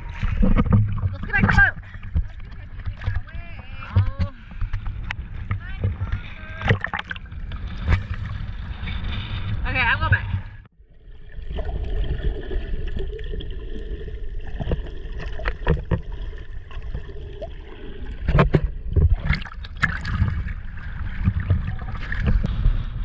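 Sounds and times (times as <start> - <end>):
water sloshing and splashing: 0.0 - 22.6.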